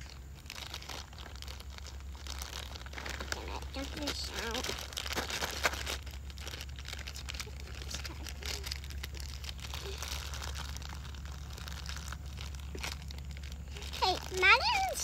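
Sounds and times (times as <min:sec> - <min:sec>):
plastic packaging crinkling: 0:00.0 - 0:15.0
steady low rumble: 0:00.0 - 0:15.0.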